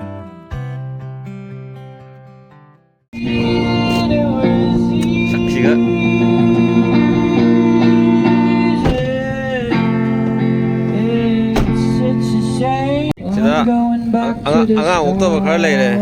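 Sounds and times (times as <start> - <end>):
voice holding long notes: 3.2 - 16.0.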